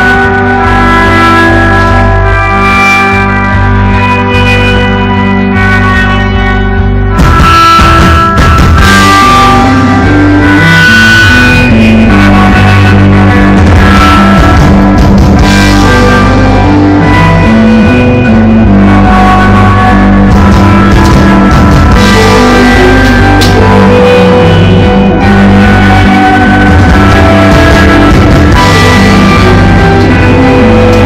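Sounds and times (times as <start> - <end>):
drum kit: 0.0 - 31.0
electric guitars: 0.0 - 31.0
keyboards: 0.0 - 31.0.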